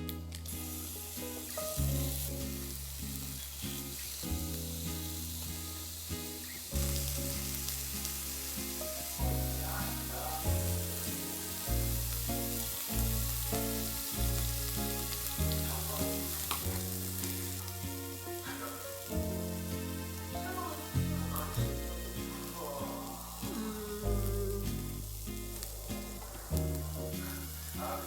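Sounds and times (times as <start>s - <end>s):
background music with low notes: 0.0s - 28.0s
food sizzling on a grill: 0.4s - 28.0s.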